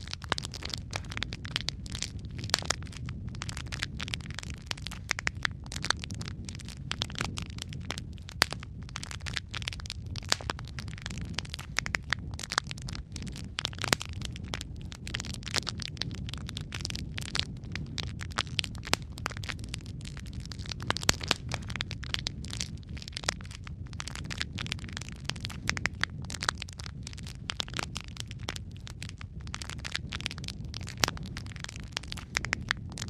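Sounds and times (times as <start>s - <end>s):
log fire crackling and popping: 0.0s - 33.0s
low rumble of burning: 0.0s - 33.0s.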